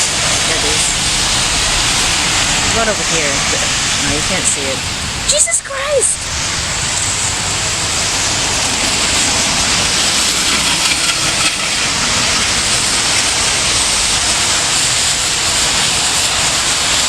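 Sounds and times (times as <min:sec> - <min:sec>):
heavy rain pouring: 0:00.0 - 0:17.0
wind rumbling on microphone: 0:00.0 - 0:17.0.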